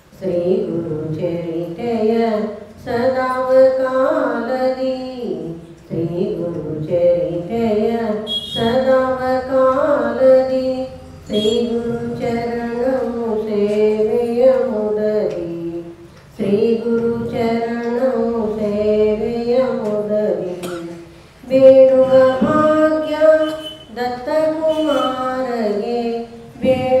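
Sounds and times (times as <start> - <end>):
woman singing into microphone: 0.0 - 27.0.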